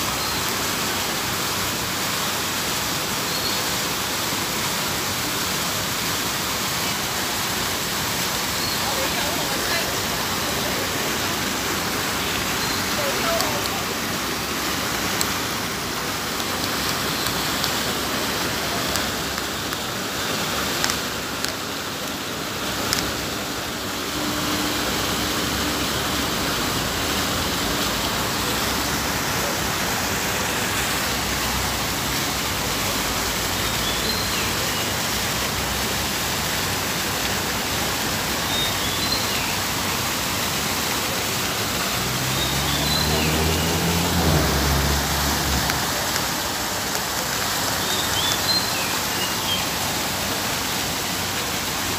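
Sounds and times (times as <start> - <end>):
fountain jets splashing into pool: 0.0 - 51.9.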